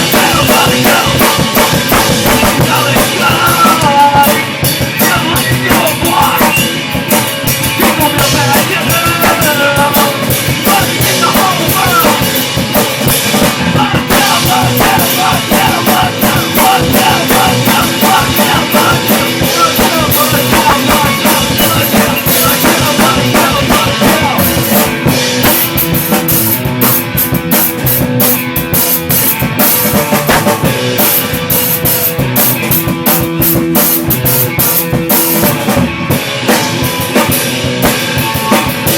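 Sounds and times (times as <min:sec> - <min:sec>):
drum kit beat: 0:00.0 - 0:38.9
rock band playing: 0:00.0 - 0:38.9.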